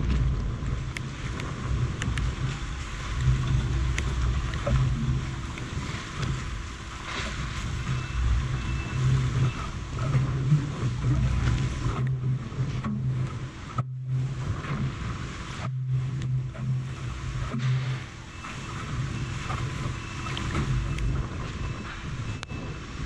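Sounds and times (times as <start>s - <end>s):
water lapping around boat: 0.0s - 23.0s
wind rumbling on microphone: 0.0s - 23.0s.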